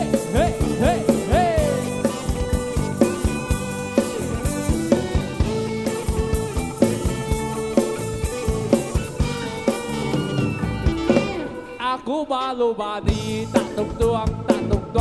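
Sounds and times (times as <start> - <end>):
drum kit steady beat: 0.0 - 11.9, 13.0 - 15.0.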